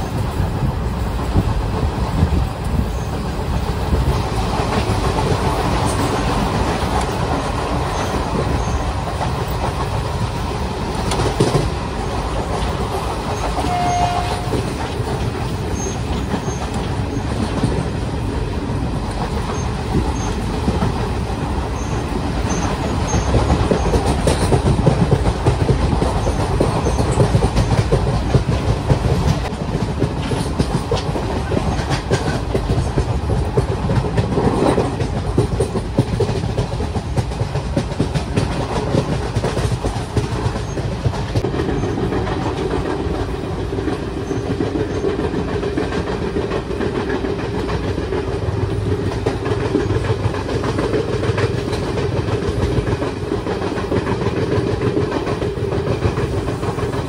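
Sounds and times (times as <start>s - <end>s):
train rumbling: 0.0s - 57.0s
wheels clacking over rail joints: 0.0s - 57.0s.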